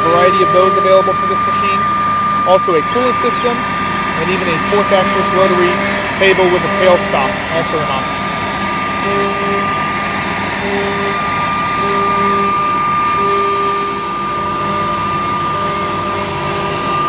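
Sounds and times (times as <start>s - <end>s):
dust collector air rushing: 0.0s - 17.0s
low machine tone: 0.0s - 17.0s
router spindle whine: 0.0s - 17.0s.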